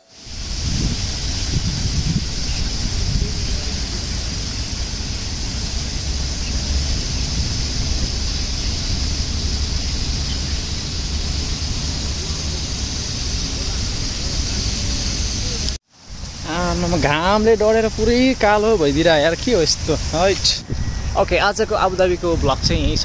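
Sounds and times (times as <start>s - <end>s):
fountain water splashing: 0.0s - 20.6s
low uneven rumble: 0.3s - 23.0s.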